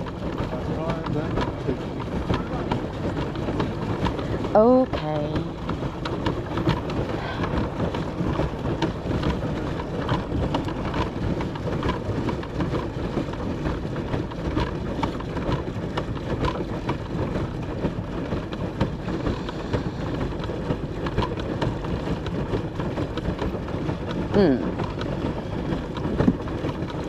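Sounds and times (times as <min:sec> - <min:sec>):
paddle wheel splashing water: 0:00.0 - 0:27.0.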